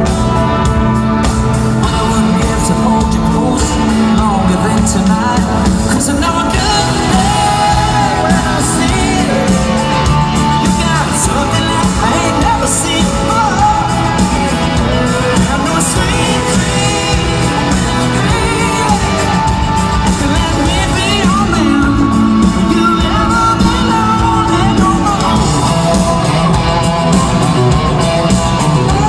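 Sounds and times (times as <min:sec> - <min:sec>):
drums and cymbals: 0:00.0 - 0:29.0
guitars: 0:00.0 - 0:29.0
lead singer vocals: 0:00.0 - 0:29.0.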